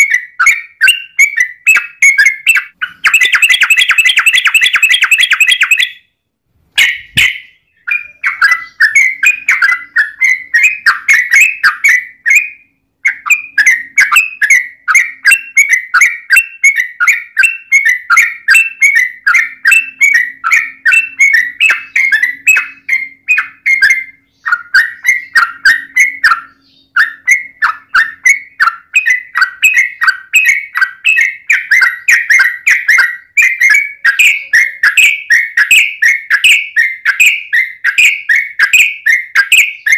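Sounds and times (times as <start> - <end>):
bird singing bubbly chirps: 0.0 - 6.1, 6.8 - 39.9.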